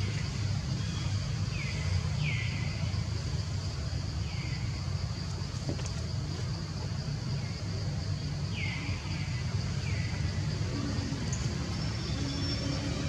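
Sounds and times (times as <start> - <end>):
distant road traffic rumble: 0.0 - 13.0
insect hum: 0.0 - 13.0.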